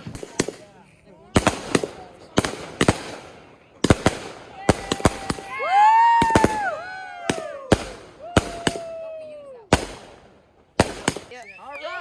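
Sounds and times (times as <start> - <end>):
fireworks bangs: 0.0 - 12.0
whistling fireworks: 0.0 - 12.0.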